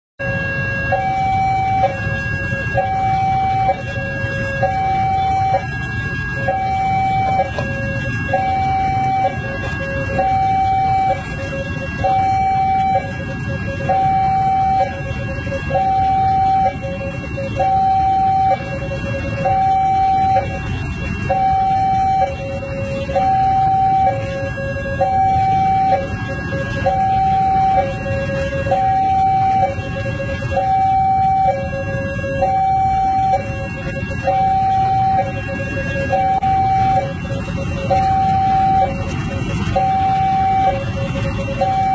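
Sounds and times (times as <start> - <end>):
two-tone crossing alarm: 0.2 - 41.9
idling road traffic rumble: 0.3 - 41.9.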